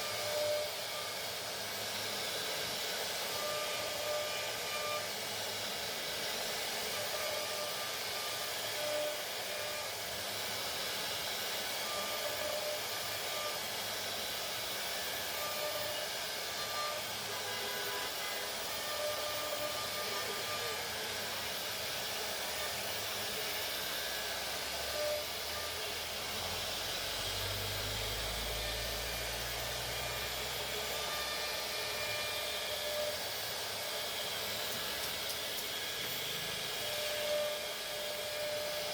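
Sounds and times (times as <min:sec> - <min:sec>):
router spindle cutting: 0:00.0 - 0:38.9.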